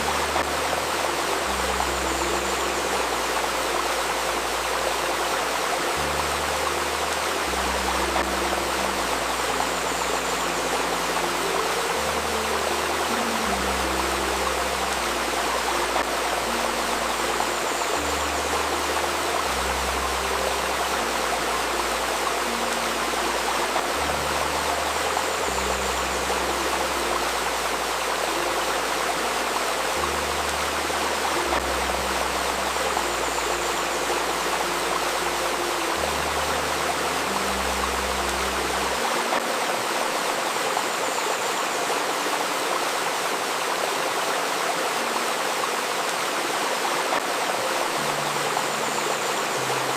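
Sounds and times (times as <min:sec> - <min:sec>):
soft ambient music: 0:00.0 - 0:49.9
stream babbling: 0:00.0 - 0:49.9.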